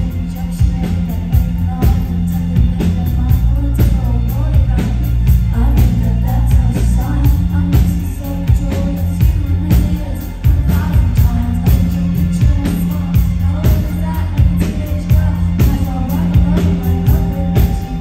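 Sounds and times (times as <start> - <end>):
live rock band playing: 0.0 - 18.0
woman singing: 0.0 - 18.0.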